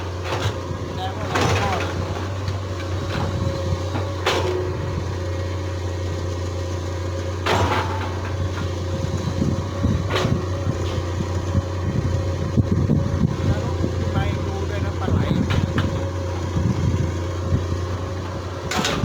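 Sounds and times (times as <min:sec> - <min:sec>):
excavator engine droning: 0:00.0 - 0:19.0.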